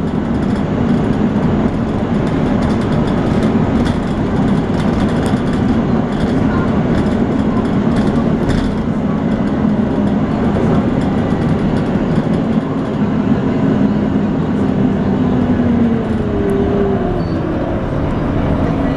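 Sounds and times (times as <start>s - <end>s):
bus engine droning with whine: 0.0s - 18.9s.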